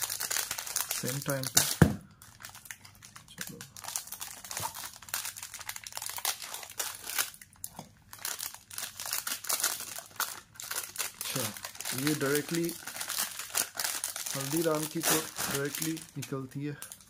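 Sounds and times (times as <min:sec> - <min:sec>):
plastic snack pouch crinkling: 0:00.0 - 0:17.0.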